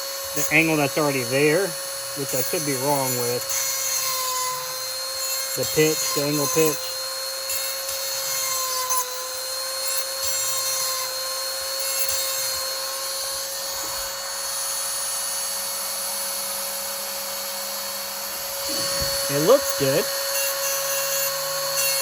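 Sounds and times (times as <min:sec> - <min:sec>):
grinding stone rasping on chain: 0:00.0 - 0:14.9, 0:18.5 - 0:22.0
sharpener motor whine: 0:00.0 - 0:22.0.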